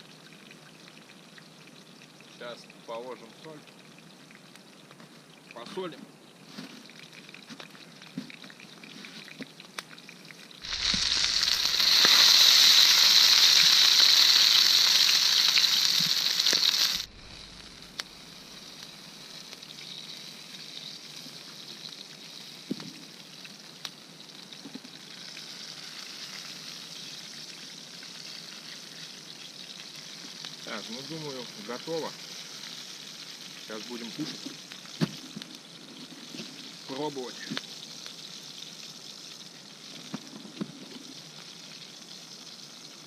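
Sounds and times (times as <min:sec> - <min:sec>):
chicken sizzling over campfire: 0:00.0 - 0:43.0.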